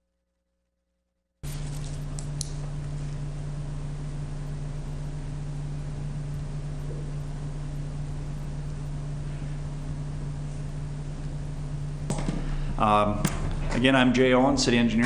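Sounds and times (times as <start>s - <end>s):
electrical hum with hiss: 1.4s - 15.0s.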